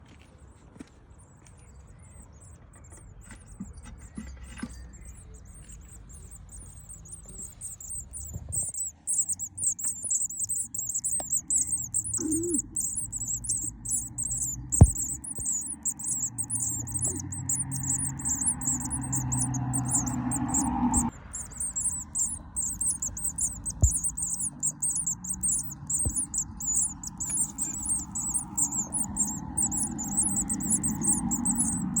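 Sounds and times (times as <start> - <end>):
small birds chirping: 0.3 - 32.0.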